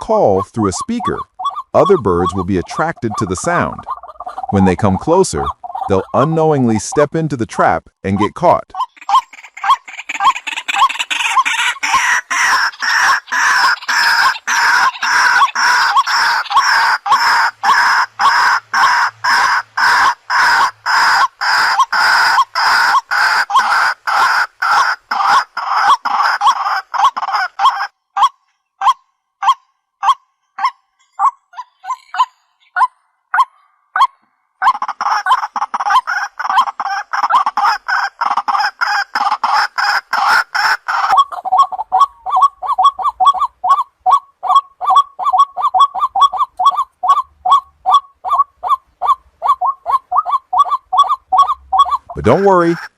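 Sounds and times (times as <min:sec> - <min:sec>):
waterhen calling: 0:00.0 - 0:52.9.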